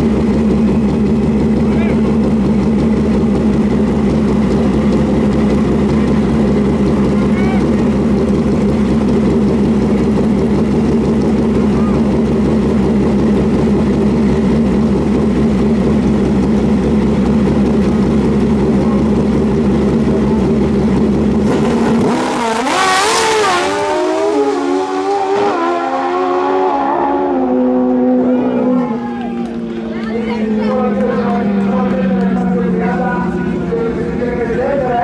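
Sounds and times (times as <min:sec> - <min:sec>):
motorcycle engines revving and launching: 0:00.0 - 0:35.0.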